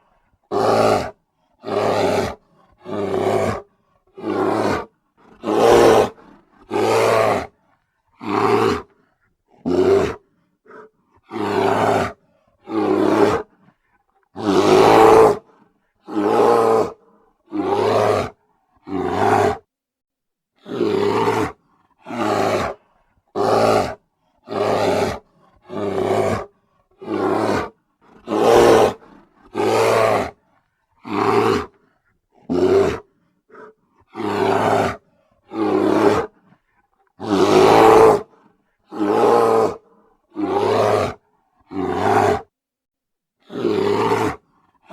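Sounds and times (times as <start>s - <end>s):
bear roaring: 0.5s - 7.6s, 8.2s - 13.6s, 14.4s - 19.7s, 20.6s - 30.4s, 31.0s - 36.5s, 37.2s - 42.5s, 43.4s - 44.9s.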